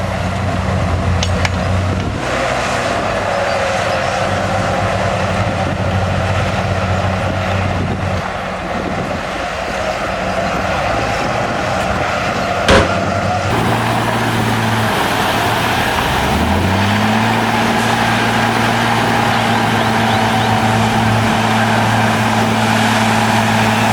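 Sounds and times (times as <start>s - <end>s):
diesel machinery engine: 0.0s - 23.9s.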